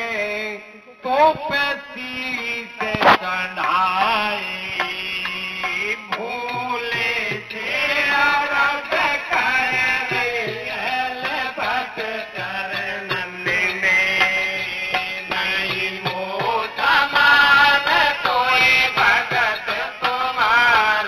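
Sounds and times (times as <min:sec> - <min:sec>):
devotional group singing: 0:00.0 - 0:21.0
hand drum beats: 0:02.8 - 0:21.0.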